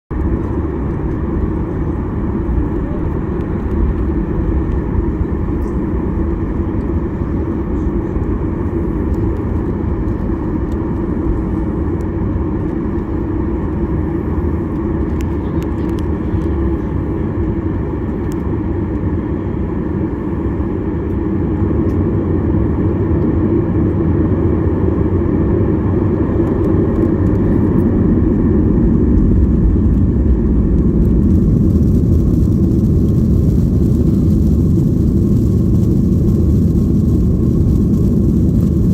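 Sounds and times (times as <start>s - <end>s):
jet engine cabin rumble: 0.1s - 38.9s.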